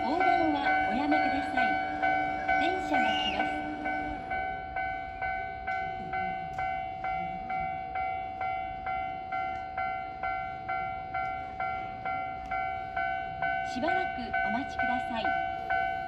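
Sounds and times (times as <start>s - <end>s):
level crossing bell ringing: 0.0s - 16.0s.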